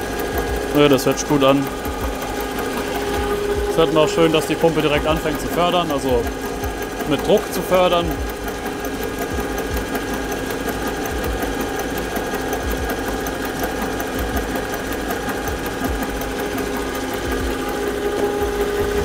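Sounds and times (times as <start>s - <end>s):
injectors clattering: 0.0s - 19.0s
steady hum: 0.0s - 19.0s.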